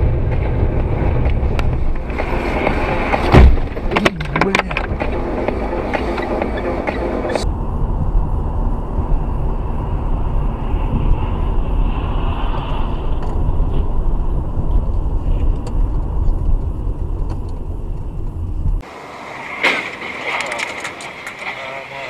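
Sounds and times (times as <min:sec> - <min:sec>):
car road noise: 0:00.0 - 0:22.0.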